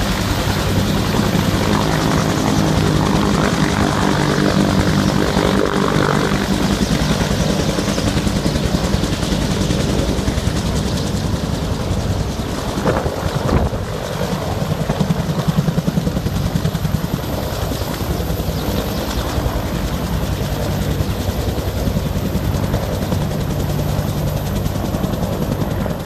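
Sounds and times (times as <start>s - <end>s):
helicopter rotor blades chopping: 0.0s - 26.0s.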